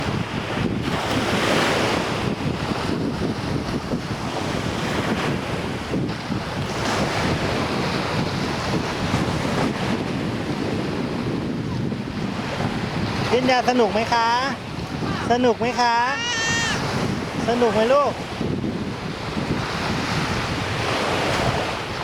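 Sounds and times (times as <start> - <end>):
sea waves washing onto beach: 0.0 - 22.0
wind buffeting microphone: 0.0 - 22.0.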